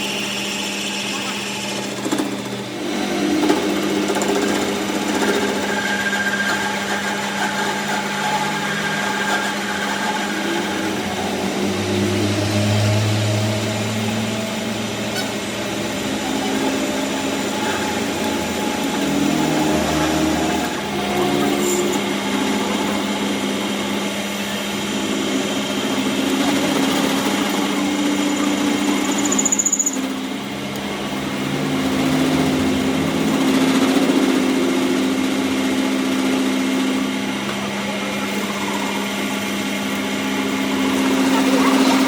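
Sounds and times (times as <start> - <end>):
power tool humming: 0.0 - 42.0.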